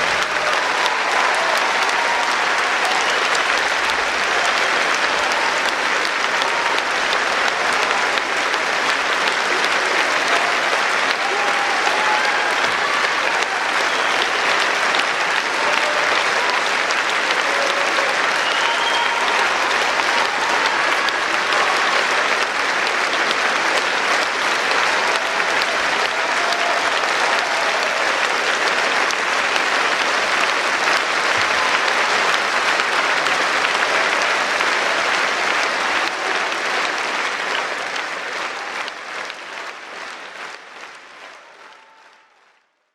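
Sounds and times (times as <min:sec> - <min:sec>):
audience applauding: 0:00.0 - 0:42.9.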